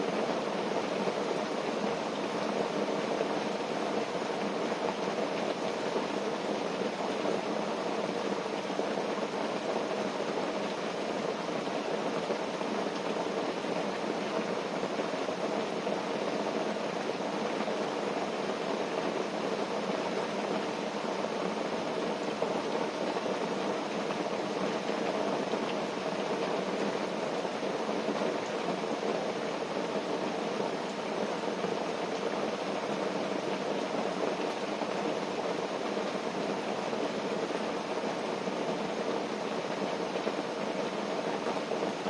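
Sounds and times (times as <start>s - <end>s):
rain on a tent: 0.0s - 42.0s.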